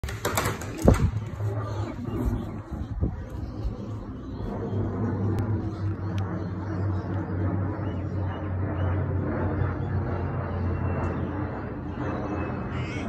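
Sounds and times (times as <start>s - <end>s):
jet airliner engines droning: 0.0s - 13.0s.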